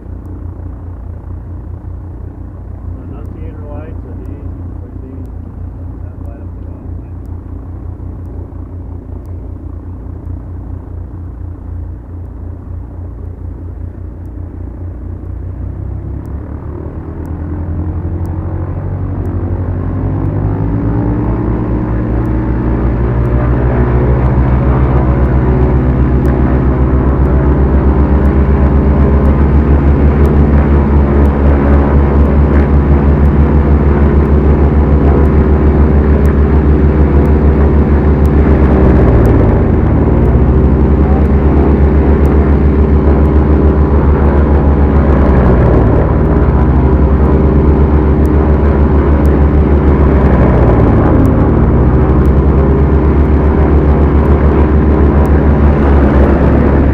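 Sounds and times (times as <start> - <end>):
twin airplane engines droning: 0.0 - 56.9.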